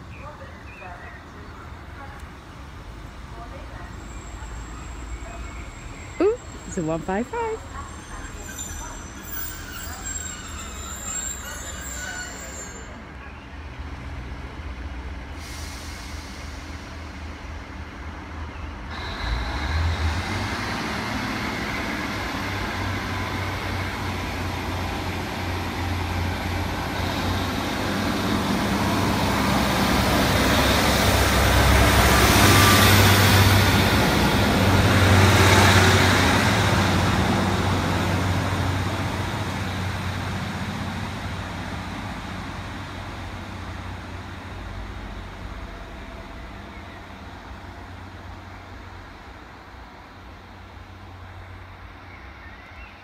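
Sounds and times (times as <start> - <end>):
diesel train engines accelerating: 0.0 - 53.0.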